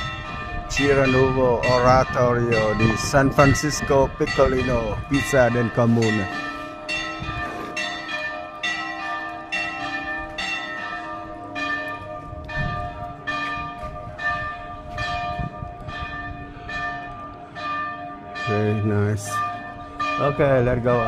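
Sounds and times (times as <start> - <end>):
church bells ringing: 0.0 - 21.0.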